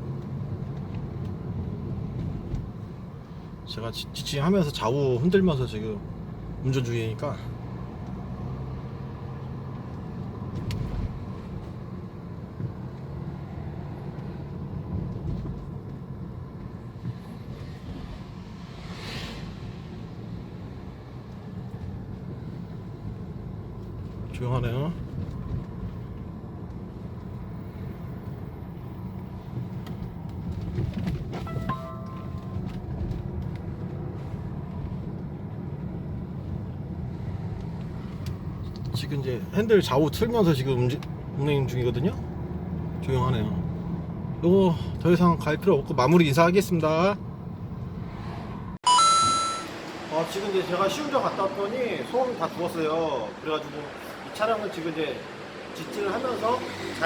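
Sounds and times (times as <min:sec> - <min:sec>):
low engine and road rumble: 0:00.0 - 0:57.0.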